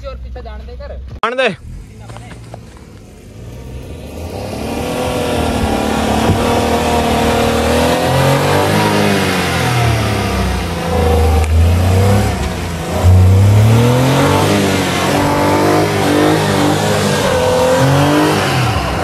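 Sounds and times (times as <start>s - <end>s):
car engine revving hard: 1.5s - 19.0s.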